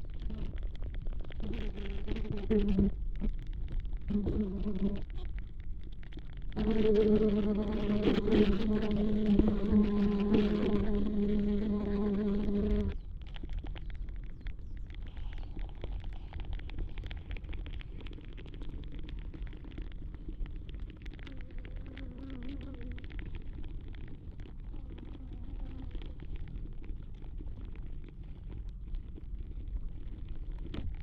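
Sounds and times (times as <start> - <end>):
faint crackling ticks: 0.0 - 31.0.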